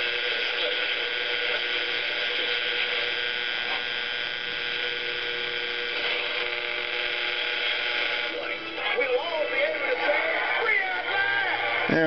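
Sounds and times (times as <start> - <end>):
faint steady tones: 0.0 - 12.0
radio static hiss: 0.0 - 12.0.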